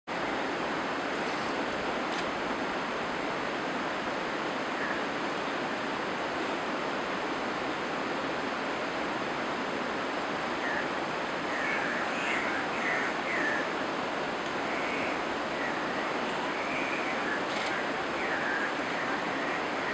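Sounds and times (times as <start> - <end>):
running water rushing: 0.1 - 19.9.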